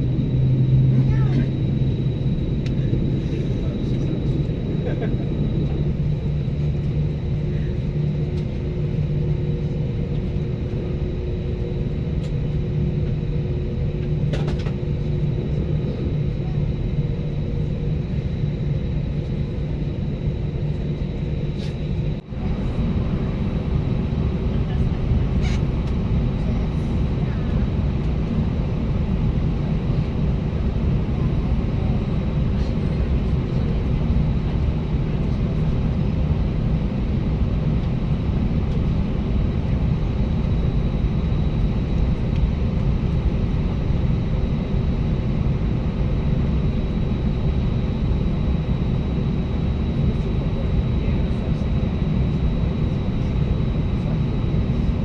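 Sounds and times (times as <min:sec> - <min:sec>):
faint high engine whine: 0:00.0 - 0:55.0
jet engine rumble in cabin: 0:00.0 - 0:55.0.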